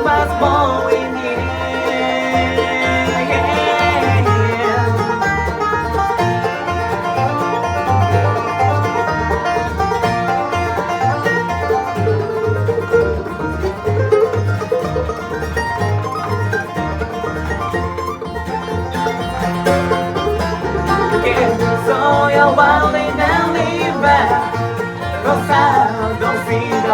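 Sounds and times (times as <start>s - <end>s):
banjo picking: 0.0s - 26.9s
bass notes: 0.0s - 26.9s
guitar: 0.0s - 26.9s.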